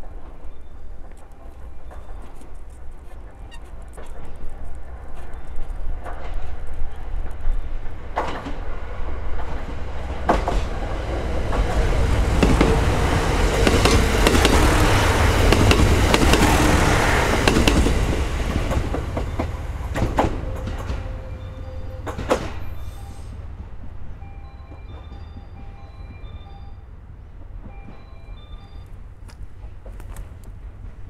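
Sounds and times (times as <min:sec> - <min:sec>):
train wheels clicking over rail joints: 0:00.0 - 0:24.0, 0:27.4 - 0:31.0
diesel train passing: 0:00.0 - 0:31.0.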